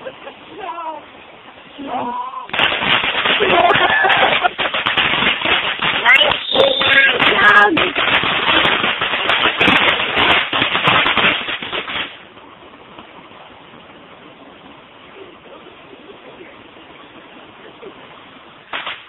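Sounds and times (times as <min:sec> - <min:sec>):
faint steady hiss: 0:00.0 - 0:19.0
fireworks crackling and banging: 0:00.0 - 0:19.0.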